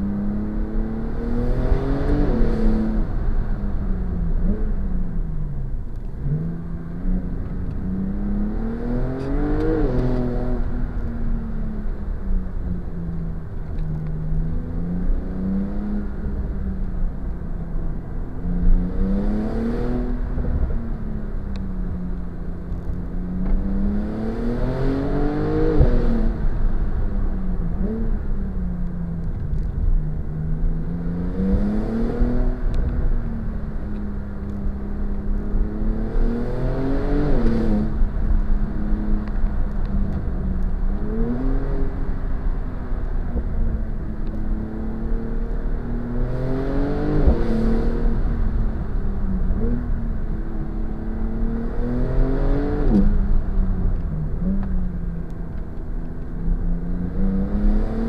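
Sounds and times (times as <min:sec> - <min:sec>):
car engine accelerating: 0:00.0 - 0:58.0
tyre and road noise: 0:00.0 - 0:58.0.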